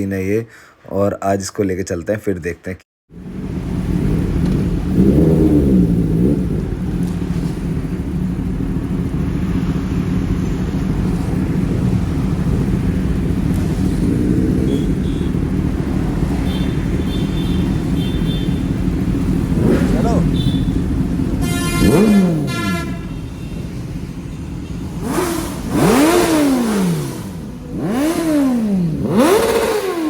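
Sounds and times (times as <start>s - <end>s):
motorcycle engine revving: 3.1s - 30.0s.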